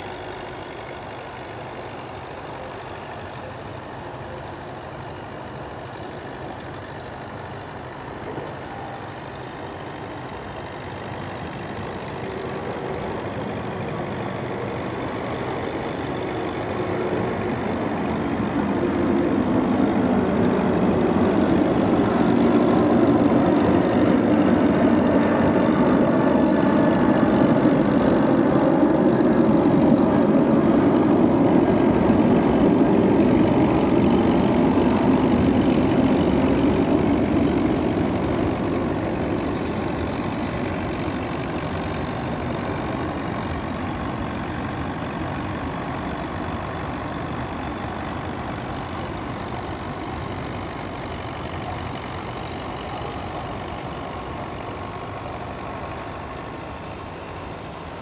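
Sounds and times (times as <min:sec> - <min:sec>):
tractor engine working under load: 0:00.0 - 0:58.0.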